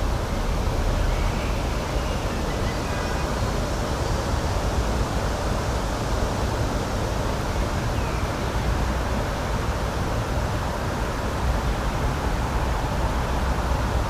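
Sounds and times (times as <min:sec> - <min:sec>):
rushing nature ambience: 0:00.0 - 0:14.0.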